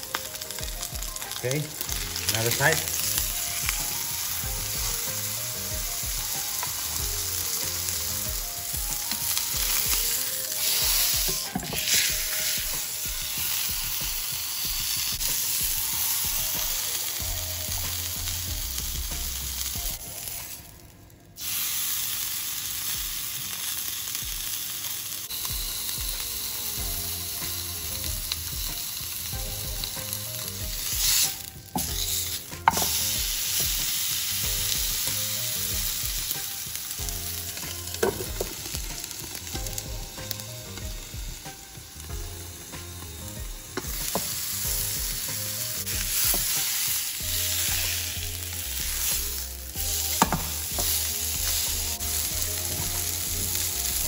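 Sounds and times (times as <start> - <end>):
steak sizzling in a frying pan: 0.0 - 20.8, 21.4 - 54.0.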